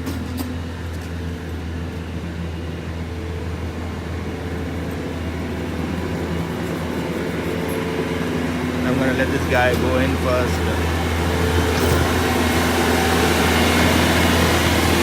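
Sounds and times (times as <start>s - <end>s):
heavy machinery engine idling: 0.0s - 15.0s.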